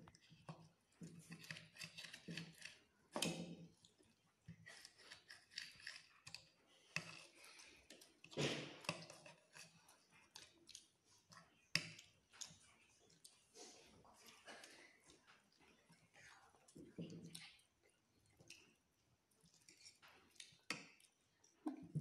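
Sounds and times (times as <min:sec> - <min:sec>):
chewing: 0:03.6 - 0:22.0.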